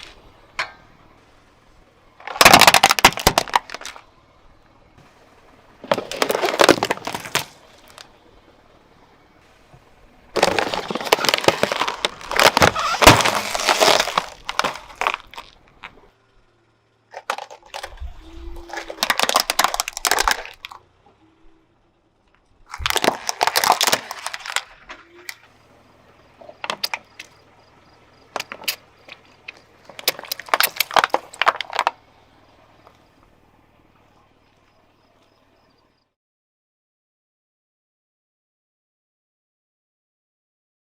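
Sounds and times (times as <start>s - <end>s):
car tyre crushing brittle objects: 0.0s - 35.8s.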